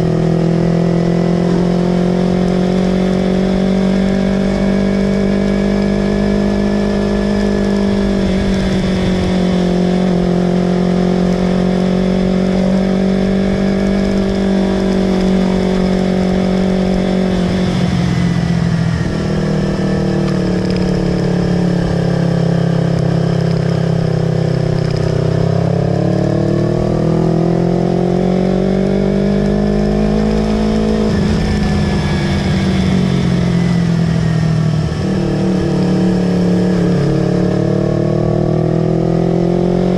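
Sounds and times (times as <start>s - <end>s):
motorbike engine at high revs: 0.0s - 39.9s.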